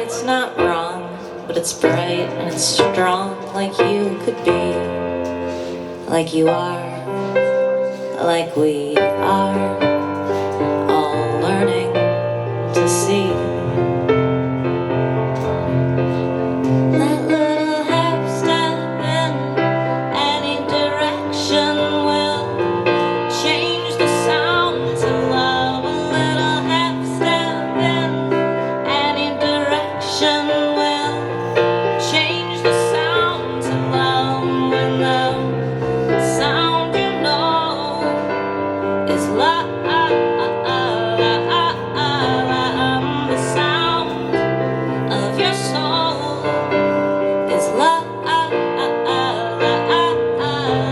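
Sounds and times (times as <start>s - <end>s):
woman singing: 0.0s - 14.7s, 15.4s - 50.9s.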